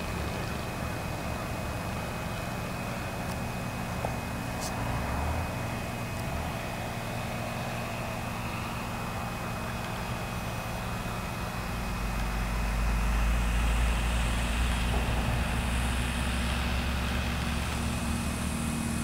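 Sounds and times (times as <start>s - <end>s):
model plane engine droning: 0.0s - 19.0s.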